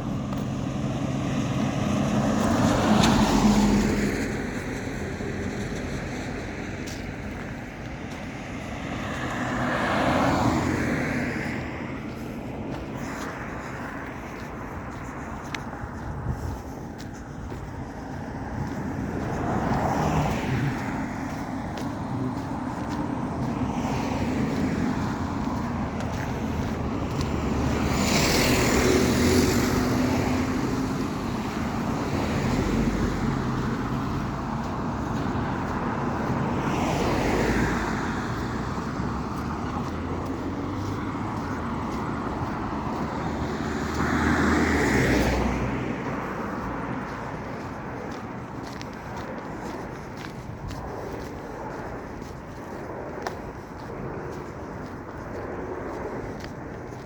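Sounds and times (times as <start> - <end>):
cars passing: 0.0 - 57.0
hum of traffic: 0.0 - 57.0.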